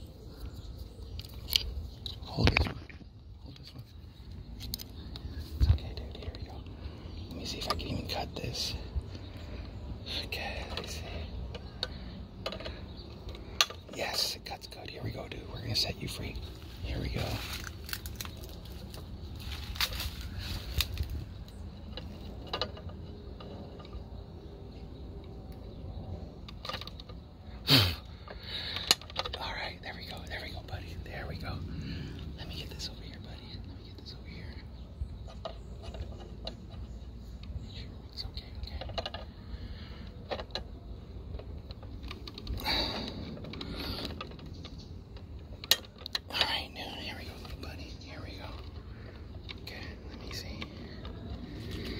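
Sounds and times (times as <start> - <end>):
low steady rumble: 0.0 - 51.9.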